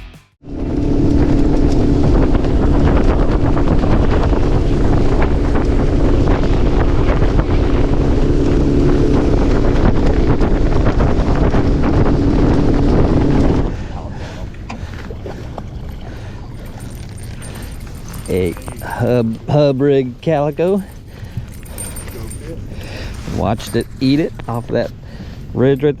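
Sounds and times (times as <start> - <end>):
boat motor running: 0.5 - 25.8
wind buffeting microphone: 0.6 - 26.0.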